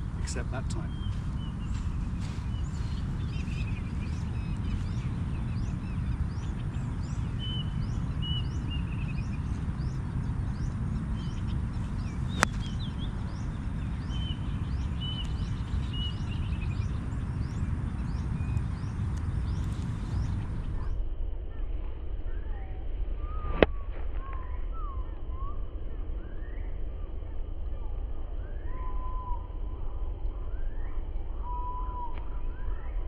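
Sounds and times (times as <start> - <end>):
low outdoor noise: 0.0 - 33.0.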